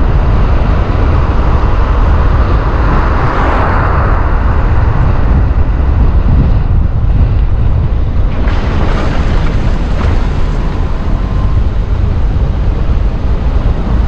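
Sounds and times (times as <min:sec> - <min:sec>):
rushing noise: 0:00.0 - 0:14.0
vehicle road noise: 0:00.0 - 0:14.0
wind buffeting microphone: 0:00.0 - 0:14.0.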